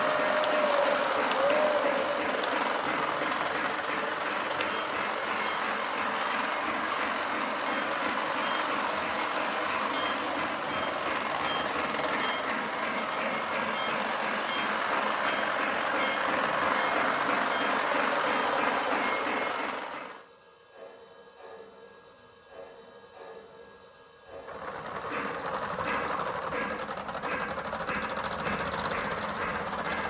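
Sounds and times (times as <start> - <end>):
toy train motor and wheels rumbling: 0.0 - 20.3, 24.3 - 30.0.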